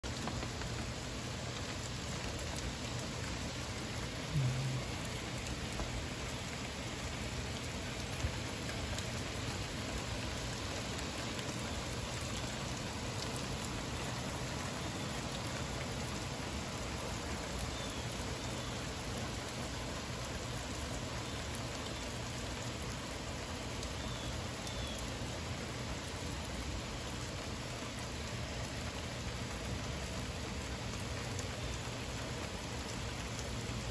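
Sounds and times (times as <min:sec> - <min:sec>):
heavy rain on pavement: 0:00.0 - 0:33.9.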